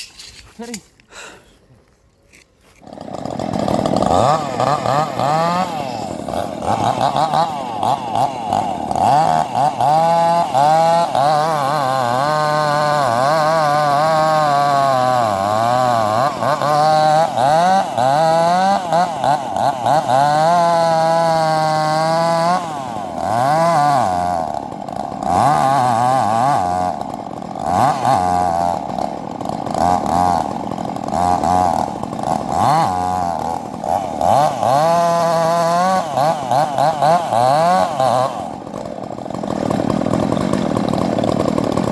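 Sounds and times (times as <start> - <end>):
chainsaw revving: 2.6 - 41.9.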